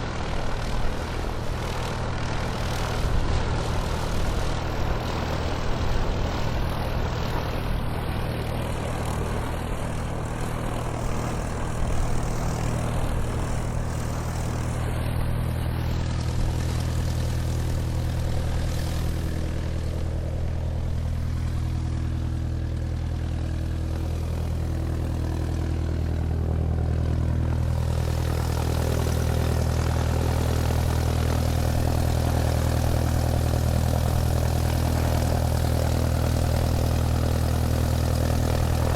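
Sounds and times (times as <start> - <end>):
airplane engine droning: 0.0 - 38.9.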